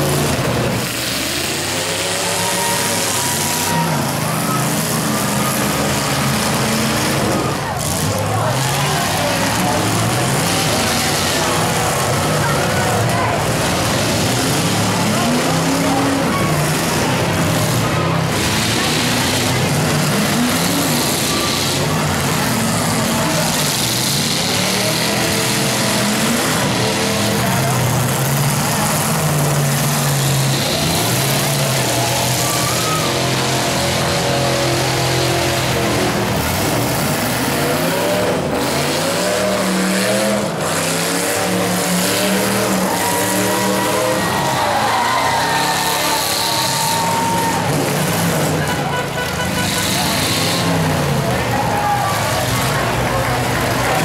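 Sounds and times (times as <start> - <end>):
car engines revving loudly: 0.0 - 54.0
cars smashing: 0.0 - 54.0.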